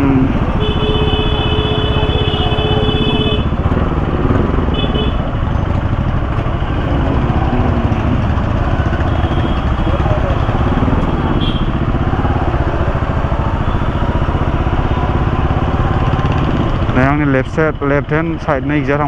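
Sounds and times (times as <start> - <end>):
vehicle horn: 0.0 - 4.0, 4.6 - 5.6, 6.7 - 17.1
motorcycle engine: 0.0 - 19.0.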